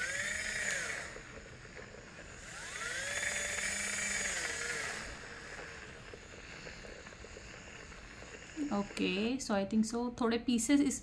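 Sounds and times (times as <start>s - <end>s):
blender motor whine: 0.0s - 11.0s.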